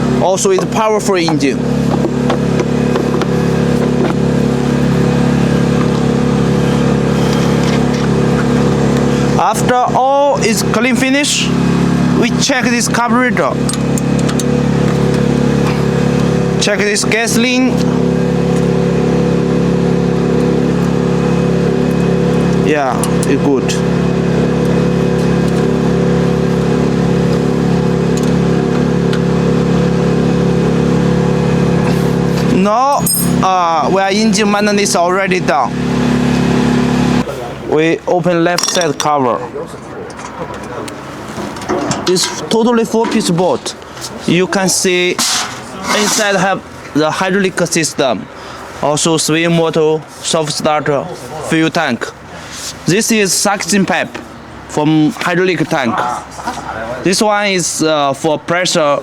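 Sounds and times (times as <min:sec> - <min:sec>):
excavator engine running: 0:00.0 - 0:49.5.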